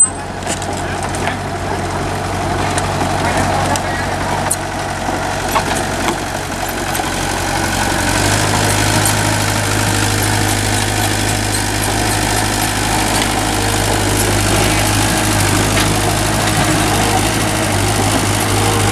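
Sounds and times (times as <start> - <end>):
diesel engine idling: 0.0 - 18.9.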